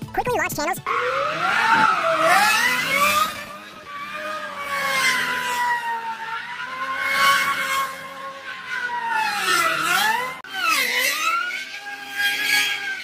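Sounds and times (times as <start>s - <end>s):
car engine at high revs: 0.9s - 13.0s.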